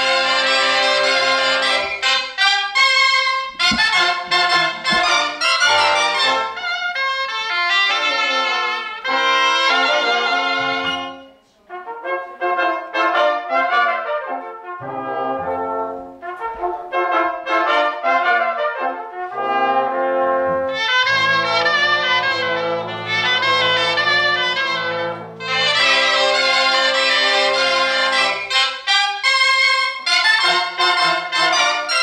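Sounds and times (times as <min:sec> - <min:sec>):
wind band playing dance melody: 0:00.0 - 0:32.0.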